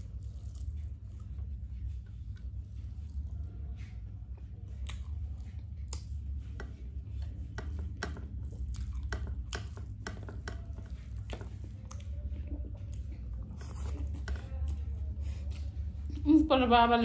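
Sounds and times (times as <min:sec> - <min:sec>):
chewing: 0:00.0 - 0:03.6, 0:04.6 - 0:15.9
wet squishes of food: 0:00.0 - 0:16.1
steady low hum: 0:00.0 - 0:17.0.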